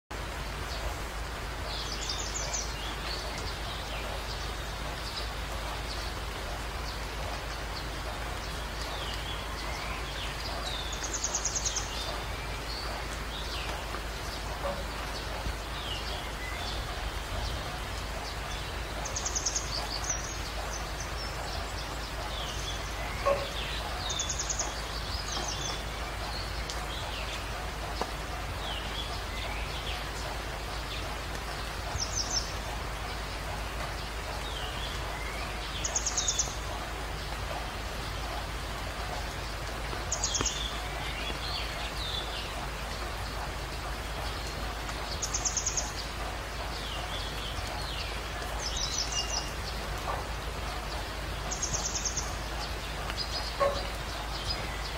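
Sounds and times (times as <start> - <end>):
steady hiss: 0.1 - 54.9
small birds chirping: 0.2 - 54.9.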